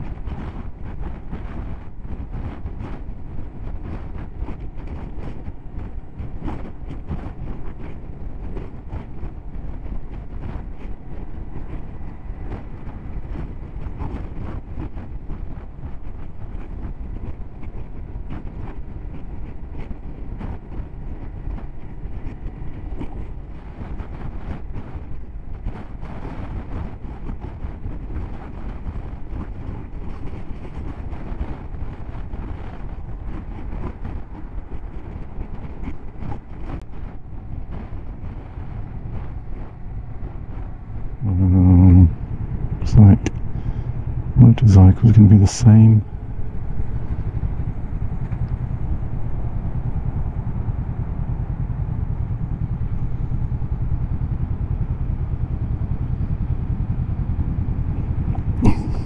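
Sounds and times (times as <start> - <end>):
motorcycle wind and road noise: 0.0 - 59.0
wind buffeting microphone: 0.0 - 59.0.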